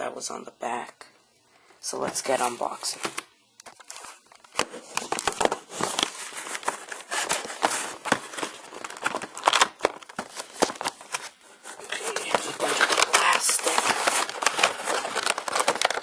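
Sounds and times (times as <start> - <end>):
packaging rustling and crinkling: 1.9 - 16.0.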